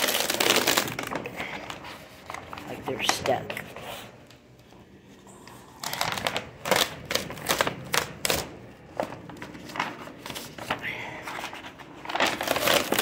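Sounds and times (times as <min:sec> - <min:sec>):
paper sheets crackling and rustling: 0:00.0 - 0:13.0.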